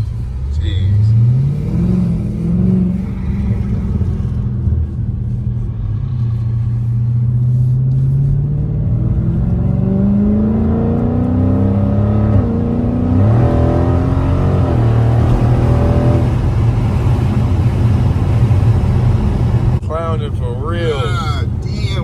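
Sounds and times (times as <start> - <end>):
car exhaust revving: 0.0 - 20.6.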